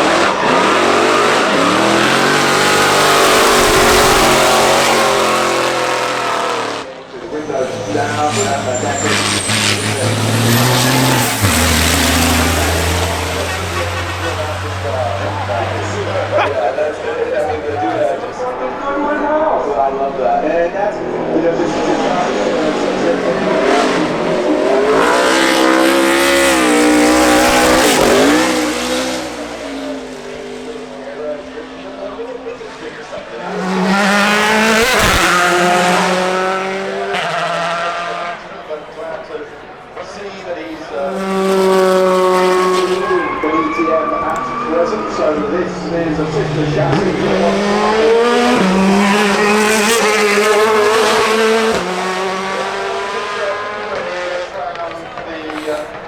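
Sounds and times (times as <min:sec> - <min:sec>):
racing car engine at high revs: 0:00.0 - 0:56.0.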